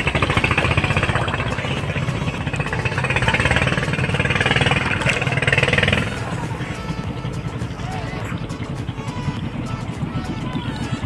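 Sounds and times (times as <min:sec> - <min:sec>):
small boat engine chugging: 0:00.0 - 0:11.0.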